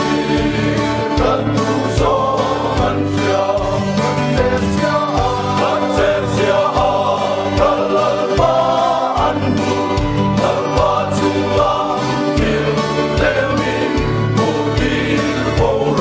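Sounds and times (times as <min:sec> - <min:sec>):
men's choir singing chords: 0:00.0 - 0:16.0.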